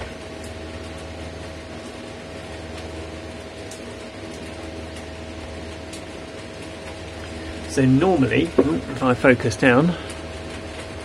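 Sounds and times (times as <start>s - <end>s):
background hum: 0.0s - 11.0s
faint whine: 0.0s - 11.0s.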